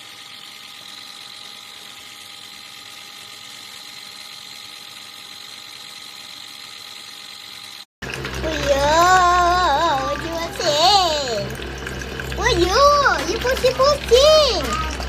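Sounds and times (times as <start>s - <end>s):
washing machine electric hum: 0.0s - 15.0s.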